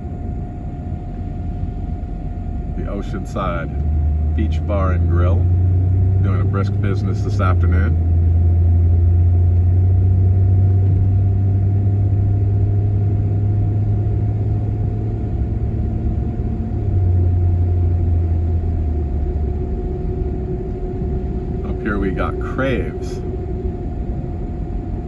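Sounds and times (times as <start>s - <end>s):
car engine and road drone: 0.0s - 25.0s
faint steady hum: 0.0s - 25.0s.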